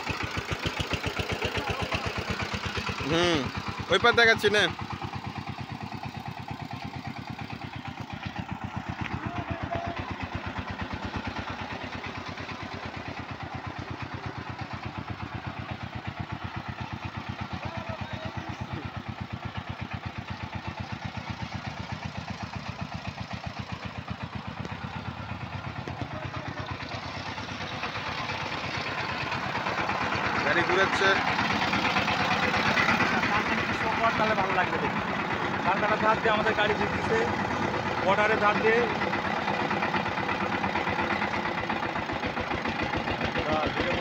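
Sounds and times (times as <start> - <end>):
diesel engine running under load: 0.0 - 44.0.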